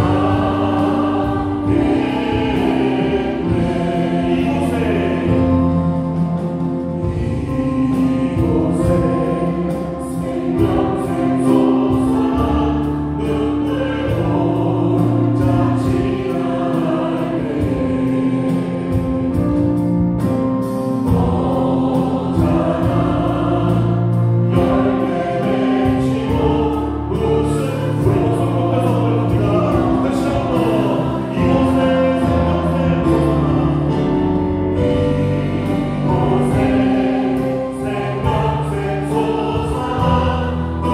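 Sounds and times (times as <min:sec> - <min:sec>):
choir singing a hymn: 0:00.0 - 0:40.9
drum kit and cymbals: 0:00.0 - 0:40.9.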